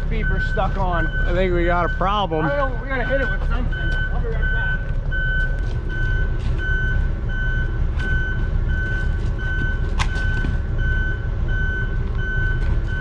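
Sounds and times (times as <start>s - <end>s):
bulldozer engine rumble: 0.0s - 13.0s
reverse alarm beeping: 0.0s - 13.0s.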